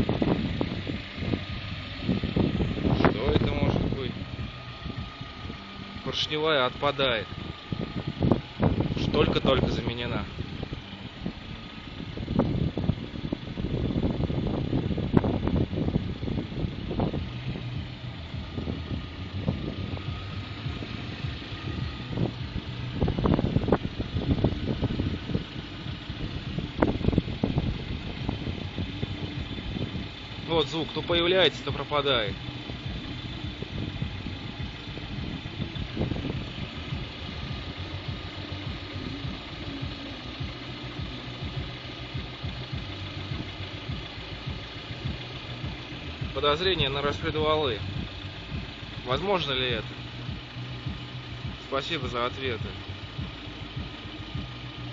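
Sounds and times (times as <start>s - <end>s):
car engine idling: 0.0s - 54.9s
irregular engine knocking: 0.0s - 54.9s.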